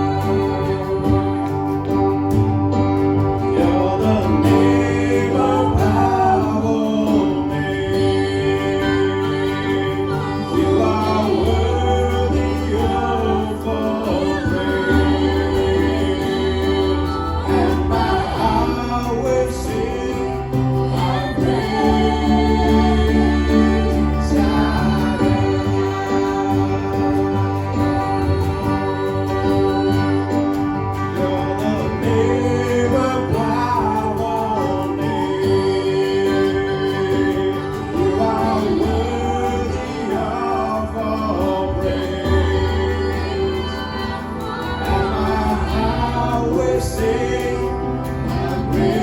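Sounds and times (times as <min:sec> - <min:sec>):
bass line: 0:00.0 - 0:49.0
held chords: 0:00.0 - 0:49.0
people singing worship song: 0:00.0 - 0:49.0.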